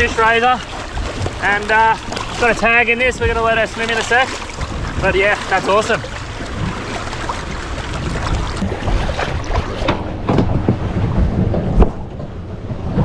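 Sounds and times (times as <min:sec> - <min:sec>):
water sloshing against boat: 0:00.0 - 0:13.0
wind buffeting microphone: 0:00.0 - 0:13.0
sharp splashes or knocks: 0:00.6 - 0:02.7, 0:03.3 - 0:12.3.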